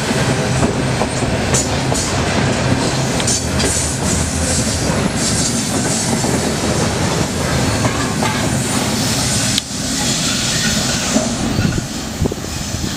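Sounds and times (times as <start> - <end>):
freight train rumbling past: 0.0 - 12.9.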